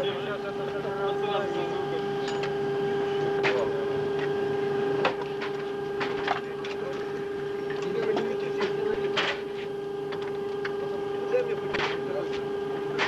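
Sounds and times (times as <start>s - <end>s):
steady high hum: 0.0s - 13.0s.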